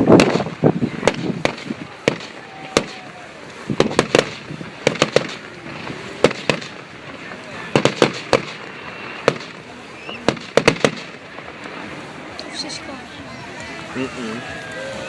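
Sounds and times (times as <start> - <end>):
firework bangs: 0.0 - 13.6.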